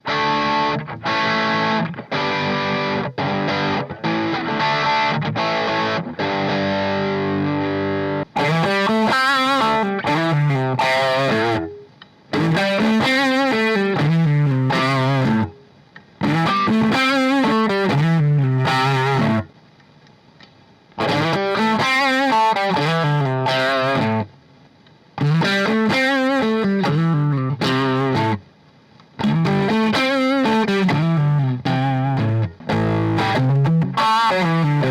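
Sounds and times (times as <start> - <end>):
electric guitar through amplifier: 0.0 - 34.9.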